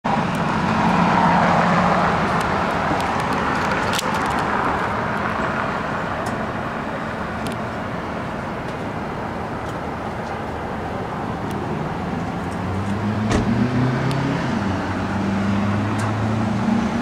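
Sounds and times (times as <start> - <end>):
passing cars: 0.0 - 17.0.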